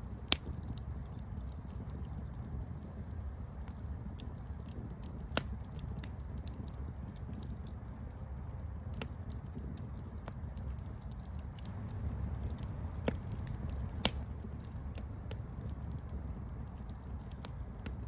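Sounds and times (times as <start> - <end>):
burning wood crackling: 0.0 - 18.0
low rumble of flames: 0.0 - 18.0
loud fire pops: 0.1 - 2.2, 2.8 - 7.7, 8.4 - 18.0.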